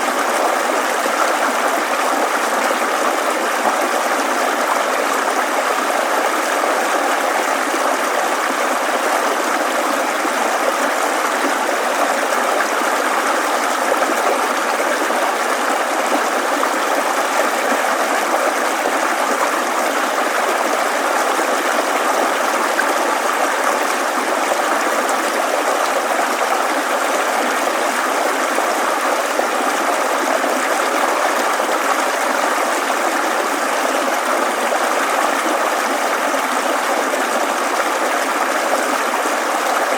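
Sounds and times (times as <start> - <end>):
shallow stream flowing: 0.0 - 39.9.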